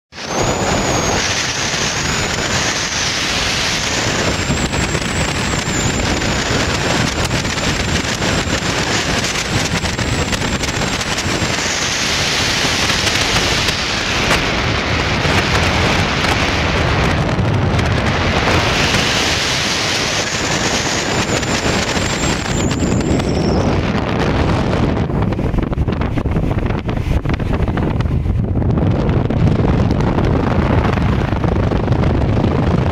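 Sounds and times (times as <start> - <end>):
boat motor: 0.1 - 32.9
water noise: 0.1 - 32.9
wind buffeting microphone: 0.1 - 32.9.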